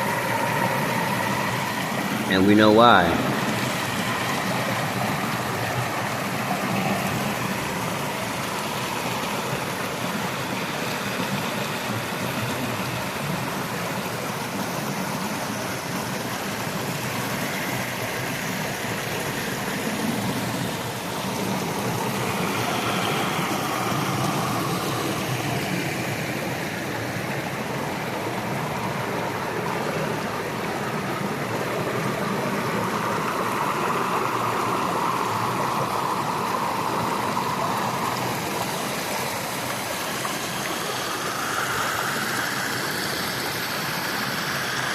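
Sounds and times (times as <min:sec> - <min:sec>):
stream water rushing: 0:00.0 - 0:44.9.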